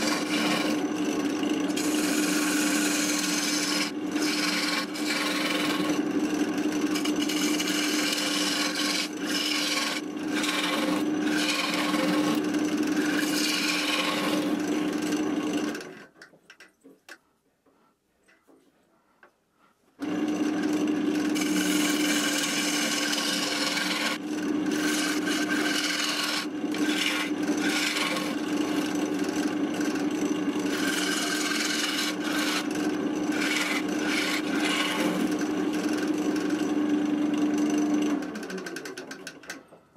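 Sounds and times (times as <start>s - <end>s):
gouge scraping wood: 0.0s - 16.2s, 19.6s - 37.0s
wood lathe hum: 0.0s - 16.2s, 20.0s - 39.6s.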